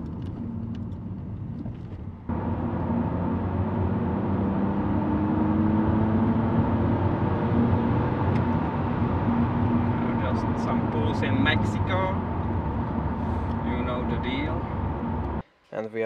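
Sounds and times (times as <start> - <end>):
car engine while driving: 0.0 - 15.4
road noise inside car: 0.0 - 15.4.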